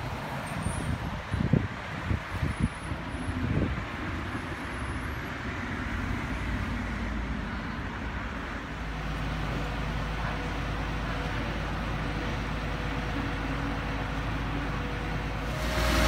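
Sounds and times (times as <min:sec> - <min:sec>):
street noise: 0:00.0 - 0:16.0
diesel engines idling: 0:03.1 - 0:16.0.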